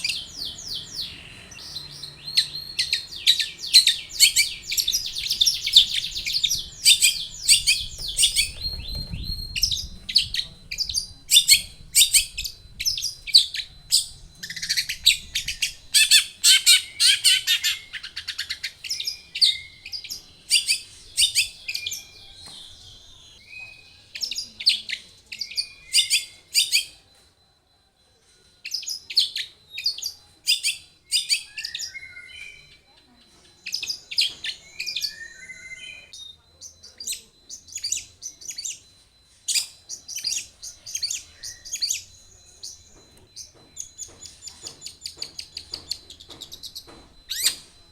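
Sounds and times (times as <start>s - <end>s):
bird chattering song: 0.0s - 27.0s, 28.6s - 47.8s.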